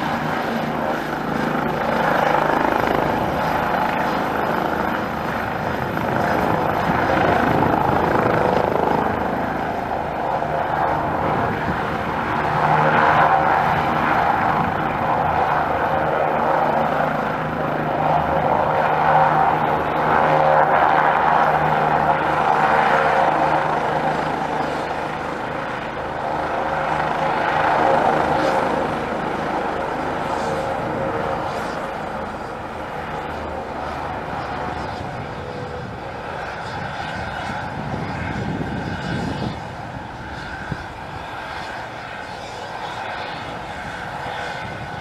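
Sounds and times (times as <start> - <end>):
helicopter rotor and engine noise: 0.0 - 45.0
high turbine whine: 0.0 - 45.0.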